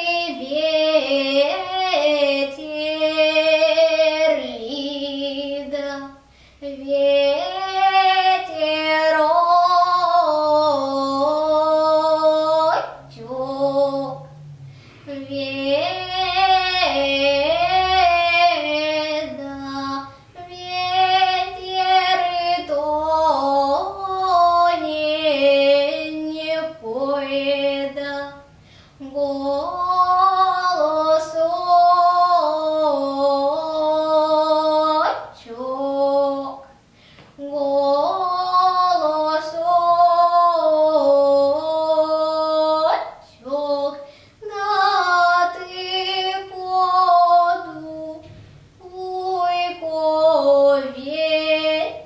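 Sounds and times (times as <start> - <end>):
high voice singing: 0.0 - 52.0.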